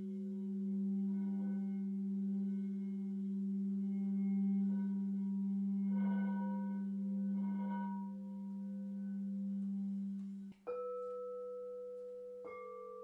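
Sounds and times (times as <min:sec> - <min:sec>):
singing bowls humming: 0:00.0 - 0:13.0.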